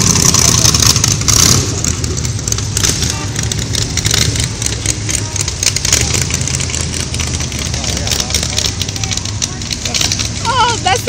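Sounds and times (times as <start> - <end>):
crowd noise: 0.0 - 11.0
old car engines rumbling: 0.0 - 11.0.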